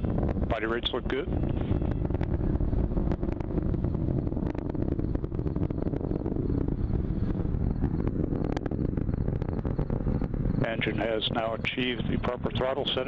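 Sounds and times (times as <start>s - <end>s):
rocket engine rumble with crackling: 0.0s - 13.0s.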